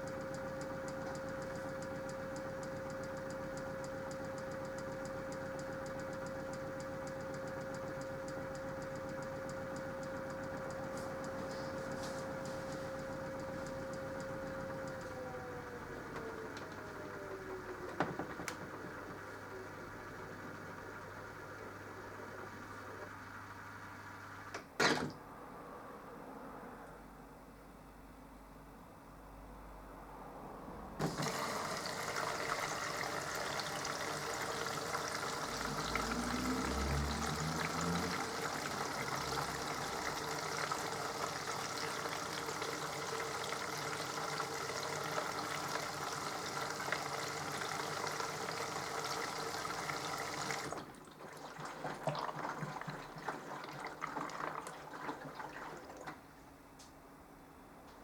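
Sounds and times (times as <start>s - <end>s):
water rushing in washing machine: 0.0s - 24.6s, 31.0s - 56.6s.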